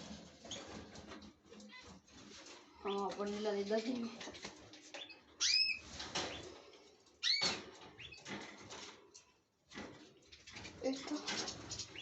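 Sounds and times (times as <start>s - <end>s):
birds fluttering wings in cage: 0.0s - 5.1s, 5.7s - 12.0s.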